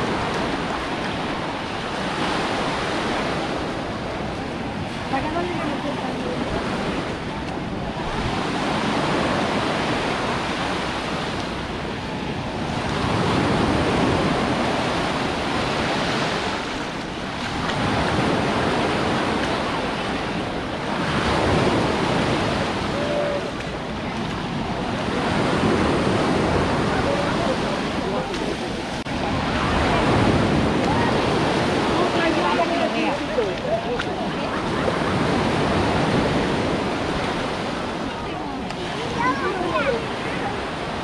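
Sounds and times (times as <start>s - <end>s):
small waves breaking on shore: 0.0s - 41.0s.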